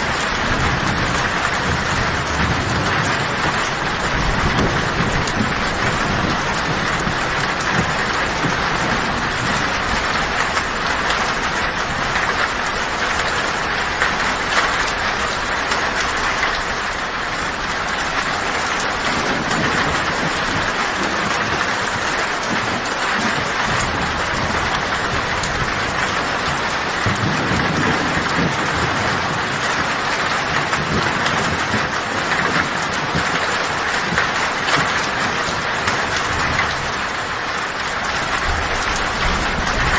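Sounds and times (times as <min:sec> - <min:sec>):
heavy rain on a tin roof: 0:00.0 - 0:39.9
low thunder rumbling: 0:00.0 - 0:39.9.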